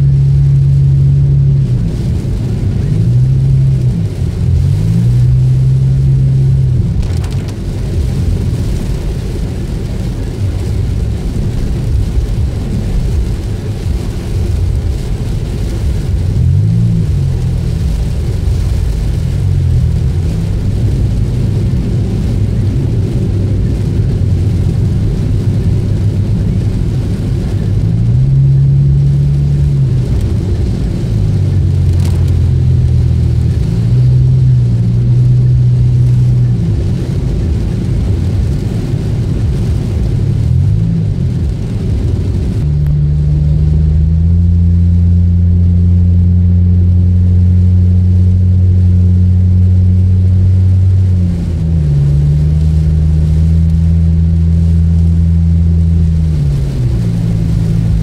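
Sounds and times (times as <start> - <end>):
car engine and exhaust drone: 0.0 - 58.0.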